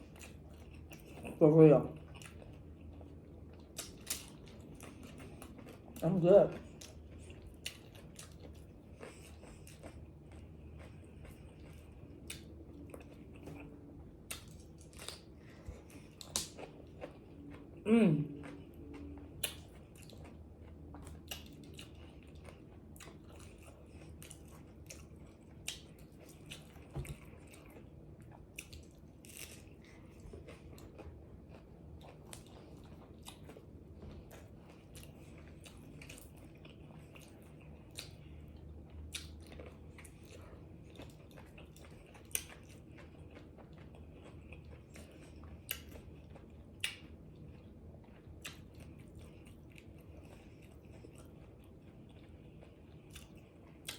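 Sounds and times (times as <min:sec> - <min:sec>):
person crunching tacos: 0:06.6 - 0:53.9.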